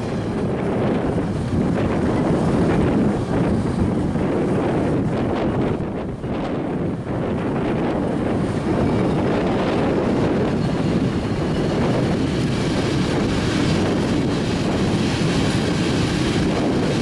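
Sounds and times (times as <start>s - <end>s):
freight train passing: 0.0s - 17.0s
wind buffeting microphone: 0.0s - 17.0s.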